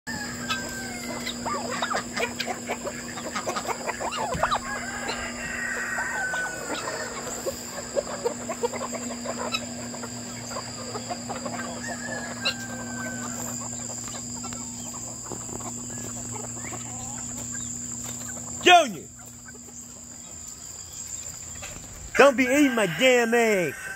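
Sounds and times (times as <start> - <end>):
chickens clucking and calling: 0.1 - 23.9.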